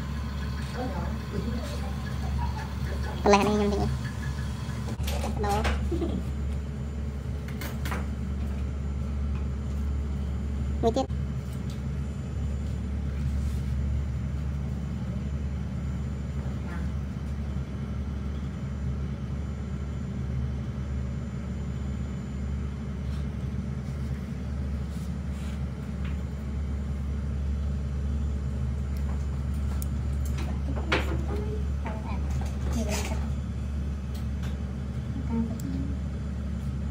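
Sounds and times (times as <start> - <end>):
low machine hum: 0.0 - 36.9.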